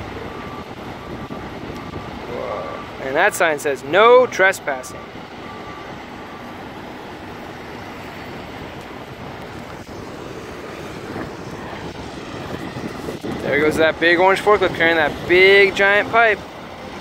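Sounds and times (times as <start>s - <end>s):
construction machinery engines droning: 0.0s - 17.0s.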